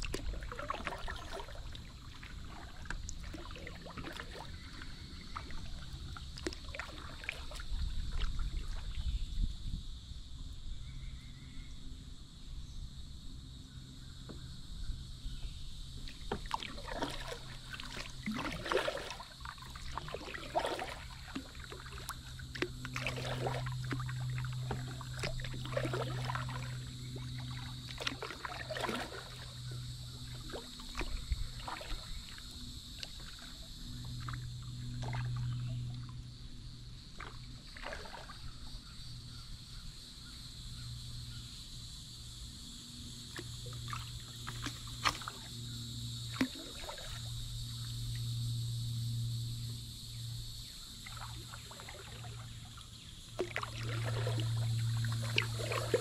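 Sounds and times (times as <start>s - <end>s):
paddle splashes and drips: 0.0s - 9.7s, 14.2s - 40.3s, 42.8s - 56.0s
low steady hum: 0.0s - 56.0s.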